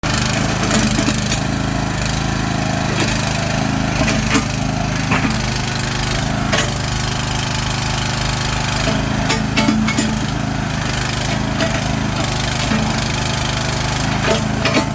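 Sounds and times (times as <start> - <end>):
excavator engine running: 0.0 - 14.9
sharp metal clanks: 0.1 - 1.7, 2.9 - 7.2, 8.4 - 14.9.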